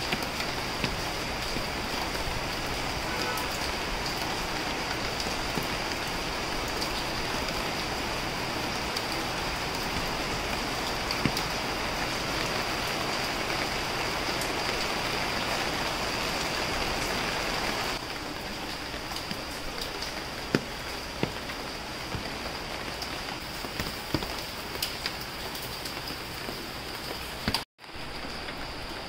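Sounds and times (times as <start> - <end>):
sharp taps of raindrops: 0.0 - 15.4, 18.0 - 29.0
heavy rain hissing: 0.0 - 29.0.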